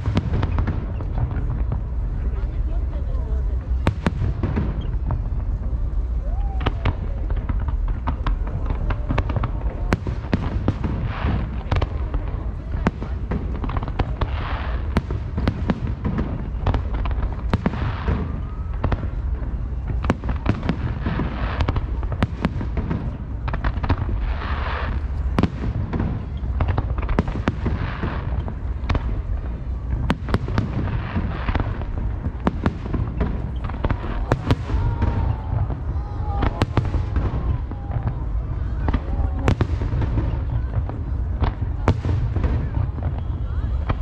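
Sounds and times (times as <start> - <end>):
fireworks bursting: 0.0 - 44.0
low rumble: 0.0 - 44.0.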